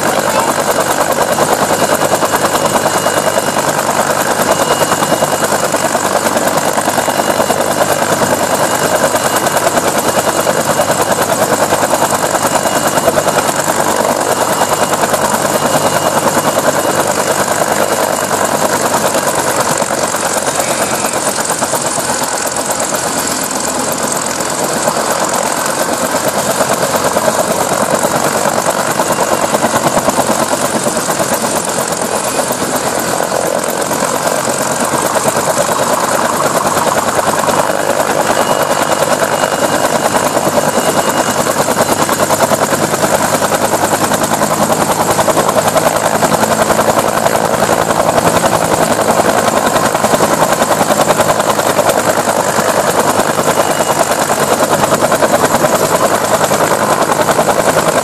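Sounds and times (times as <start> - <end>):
helicopter rotor blades beating: 0.0 - 58.0
helicopter turbine engine: 0.0 - 58.0.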